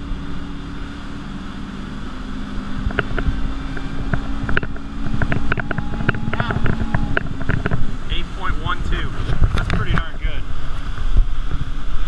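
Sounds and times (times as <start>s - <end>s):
boat engine accelerating: 0.0s - 12.0s
wind: 0.0s - 12.0s.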